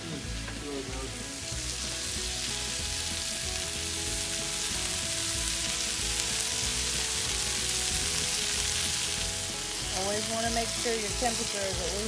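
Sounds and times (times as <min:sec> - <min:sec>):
sausages sizzling on griddle: 0:00.0 - 0:12.0.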